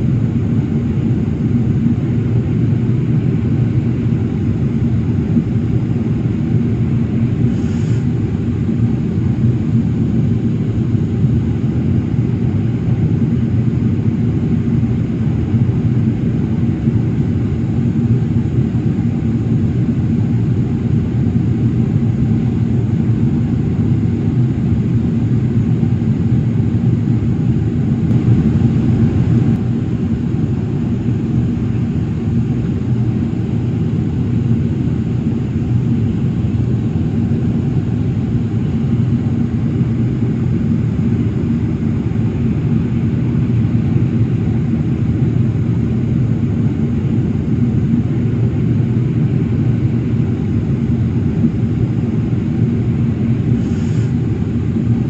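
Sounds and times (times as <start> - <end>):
airflow over fuselage: 0.0 - 55.0
jet engines rumbling: 0.0 - 55.0.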